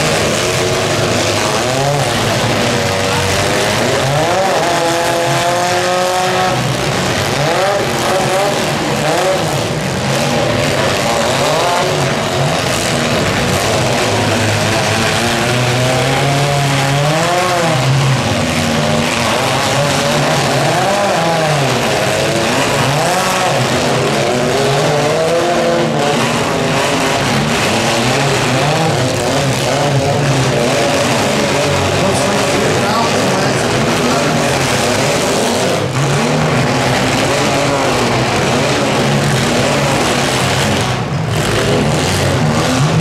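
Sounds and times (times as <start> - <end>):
car engines revving hard: 0.0 - 43.0
cars grinding against each other: 0.0 - 43.0.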